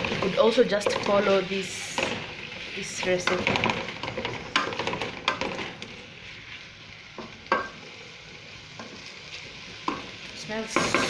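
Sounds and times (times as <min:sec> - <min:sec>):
wooden spoon scraping a pan: 0:00.0 - 0:07.9, 0:08.7 - 0:11.0
food sizzling in a pan: 0:00.0 - 0:11.0.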